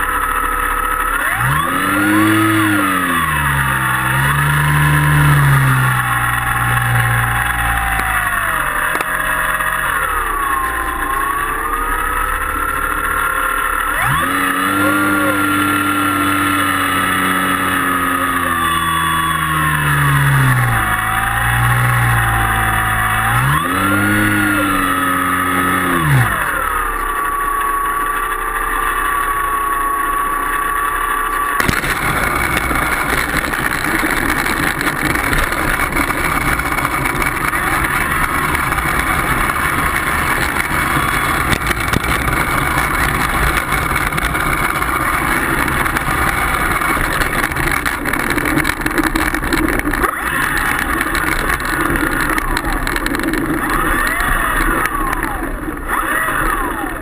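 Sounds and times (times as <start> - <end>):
plane motor whining: 0.0 - 57.0
wheels rolling over pavement: 0.0 - 57.0.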